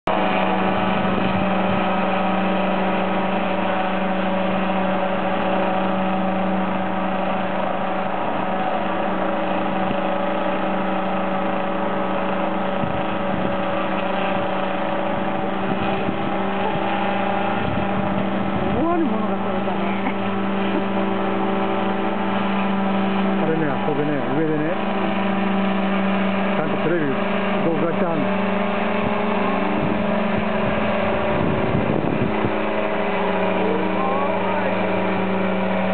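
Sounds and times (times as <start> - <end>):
drone helicopter whine: 0.0 - 35.9.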